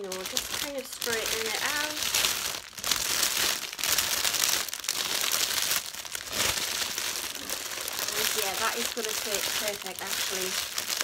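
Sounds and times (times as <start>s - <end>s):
cellophane wrap crinkling: 0.0s - 11.0s.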